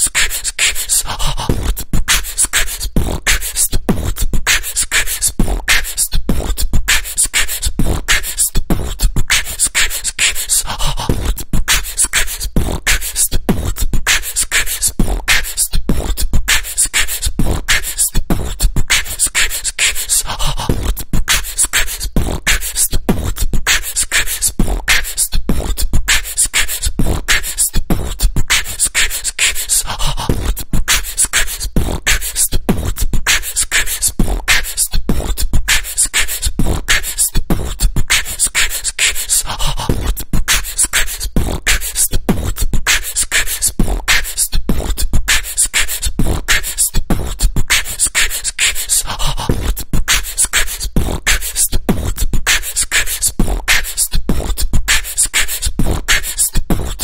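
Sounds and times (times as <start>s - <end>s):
beatbox vocal kick and snare: 0.0s - 57.0s.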